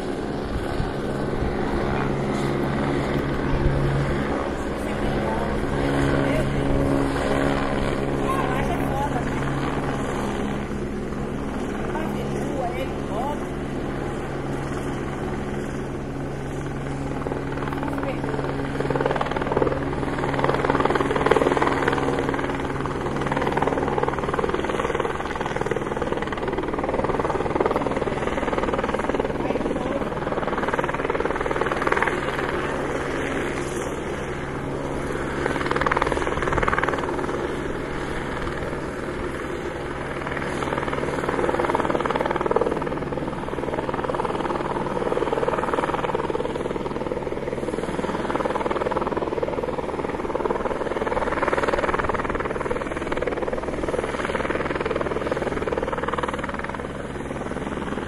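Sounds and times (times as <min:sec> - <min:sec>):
helicopter rotor and engine: 0:00.0 - 0:58.0.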